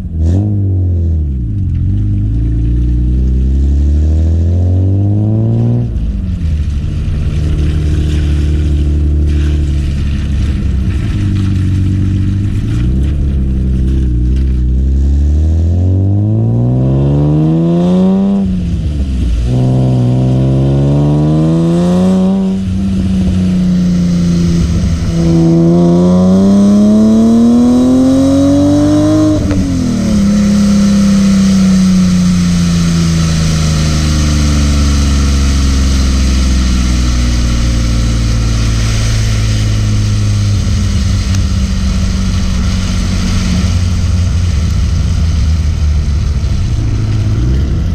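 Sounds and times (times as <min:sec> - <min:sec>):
car engine revving hard: 0:00.0 - 0:01.0, 0:03.5 - 0:47.9.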